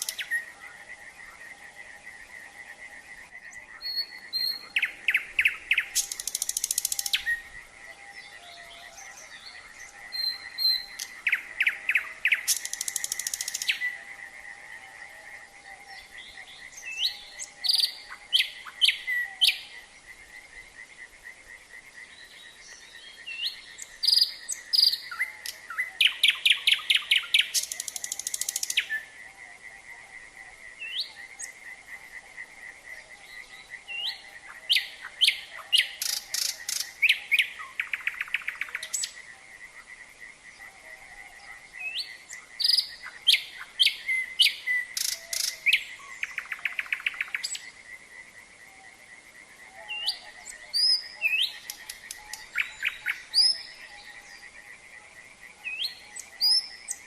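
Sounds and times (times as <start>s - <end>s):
frogs calling: 0.0s - 57.0s
nightingale singing: 0.0s - 57.0s.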